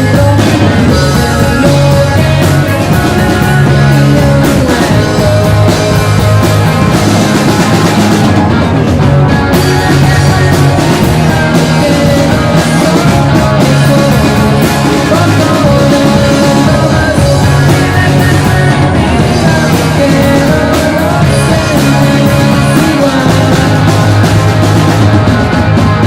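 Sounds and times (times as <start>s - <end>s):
bass guitar: 0.0s - 26.0s
drum kit: 0.0s - 26.0s
electric guitars: 0.0s - 26.0s.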